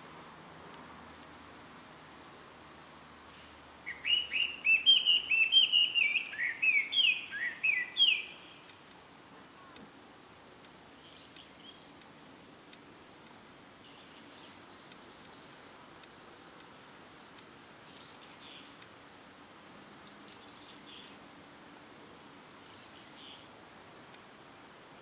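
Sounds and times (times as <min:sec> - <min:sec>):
songbird singing: 0:00.0 - 0:25.0
steady outdoor hiss: 0:00.0 - 0:25.0.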